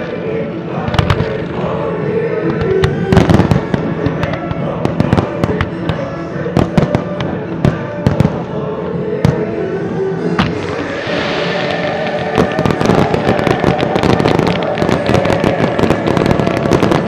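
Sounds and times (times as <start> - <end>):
music playing: 0.0 - 17.0.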